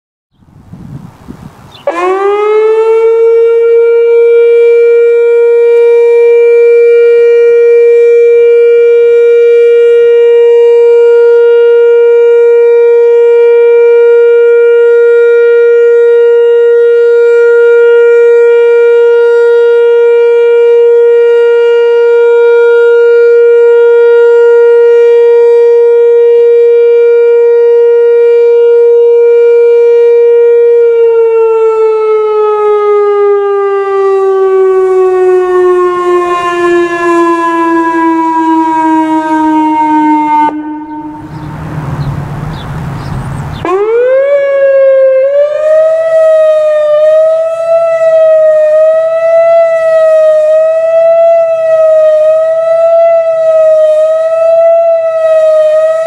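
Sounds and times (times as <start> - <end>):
warning siren steady tone: 1.7 - 56.0.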